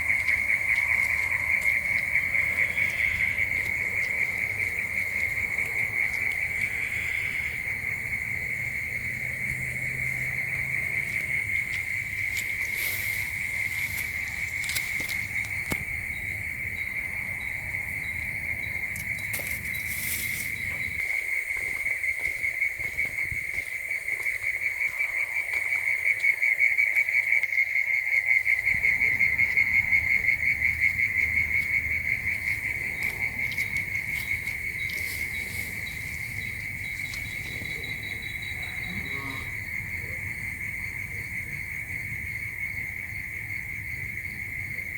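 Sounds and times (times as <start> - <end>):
insect chorus trilling: 0.0 - 44.9.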